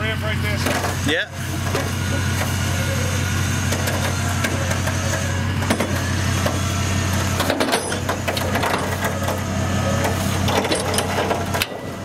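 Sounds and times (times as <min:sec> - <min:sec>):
winch drive droning: 0:00.0 - 0:12.0.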